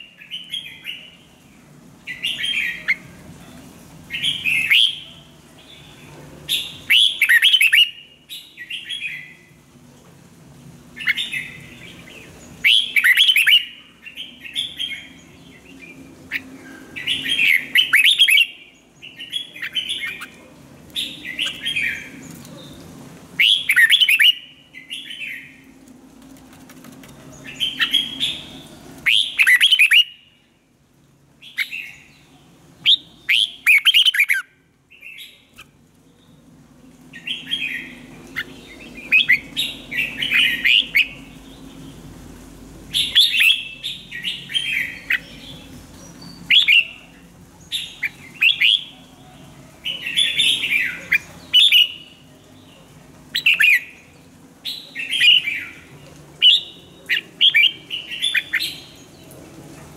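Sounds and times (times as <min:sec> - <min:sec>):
bird singing warbled phrases: 0:00.0 - 0:09.6, 0:10.9 - 0:25.7, 0:27.3 - 0:30.6, 0:31.4 - 0:42.2, 0:42.9 - 0:49.2, 0:49.8 - 0:59.4.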